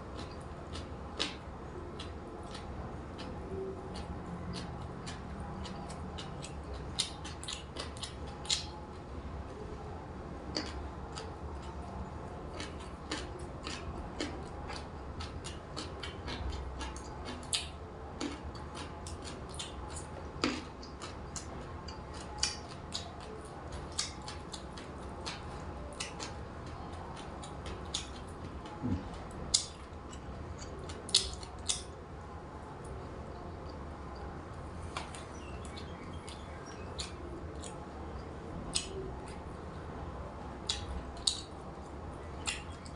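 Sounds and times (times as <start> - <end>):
chewing and crunching food: 0.0 - 42.9.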